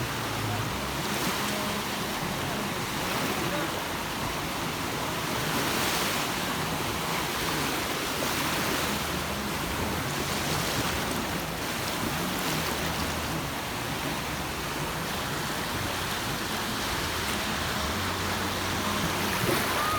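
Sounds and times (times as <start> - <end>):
sea waves washing onto beach: 0.0 - 19.9.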